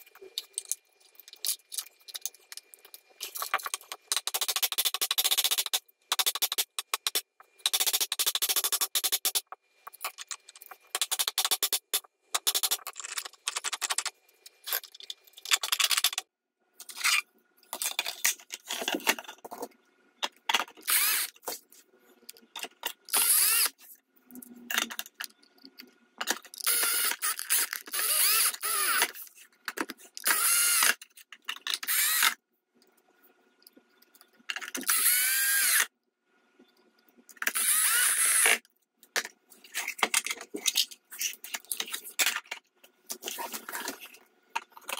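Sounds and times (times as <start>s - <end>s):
plastic parts clicking and rattling: 0.0s - 32.4s, 33.7s - 35.9s, 37.2s - 44.9s.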